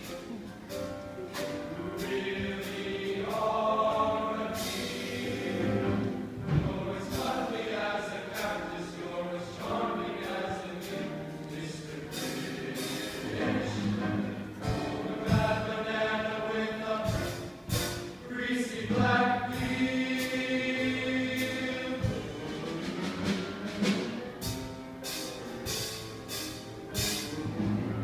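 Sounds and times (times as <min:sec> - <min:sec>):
men's choir singing: 0:01.4 - 0:24.6.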